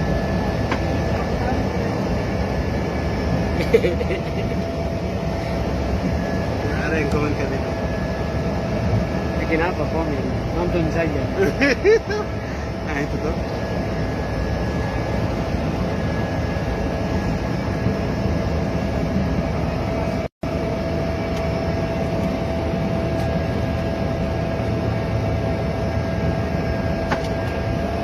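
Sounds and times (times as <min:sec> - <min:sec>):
airliner cabin engine drone: 0:00.0 - 0:28.0
engine whine: 0:00.0 - 0:28.0.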